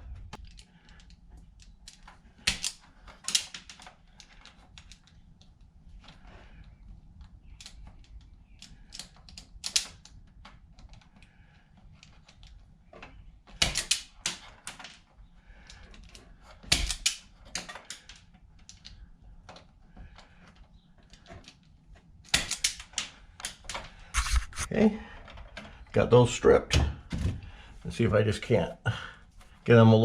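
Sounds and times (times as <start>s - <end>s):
wire strippers clicking: 0.0s - 24.7s.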